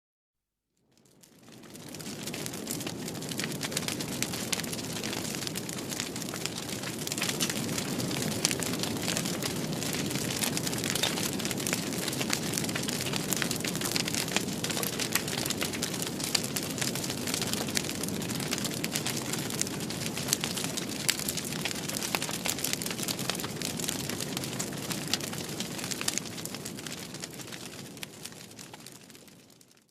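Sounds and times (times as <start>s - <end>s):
fire crackling and popping: 1.0s - 29.9s.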